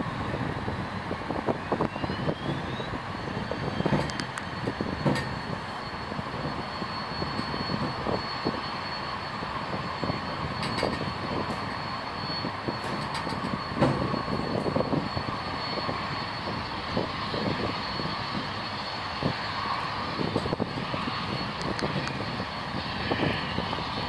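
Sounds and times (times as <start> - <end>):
turboprop engines at high power: 0.0 - 24.0.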